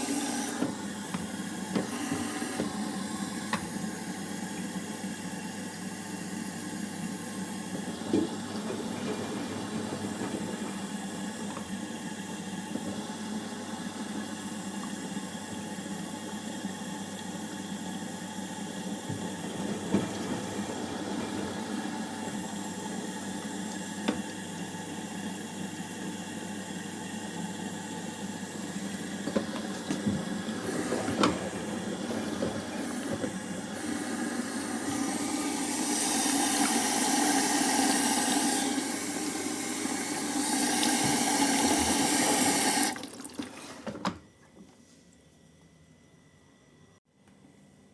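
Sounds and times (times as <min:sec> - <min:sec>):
washing machine water rushing: 0:00.0 - 0:44.4.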